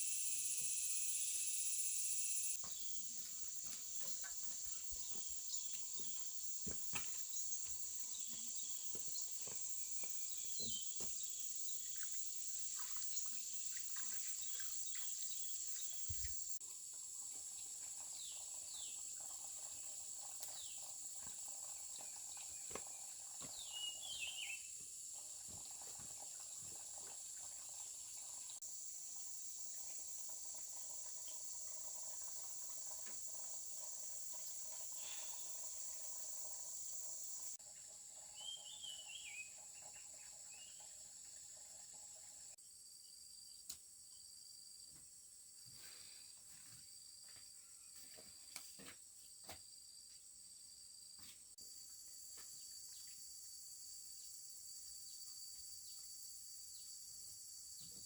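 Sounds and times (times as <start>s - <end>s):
high-pitched insect chorus: 0.0s - 37.6s, 38.3s - 48.4s, 49.8s - 58.0s.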